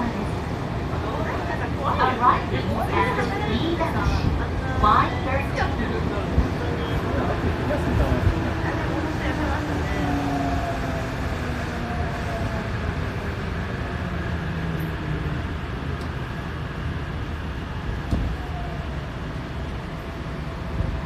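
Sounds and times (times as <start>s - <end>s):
subway train running noise: 0.0s - 21.0s.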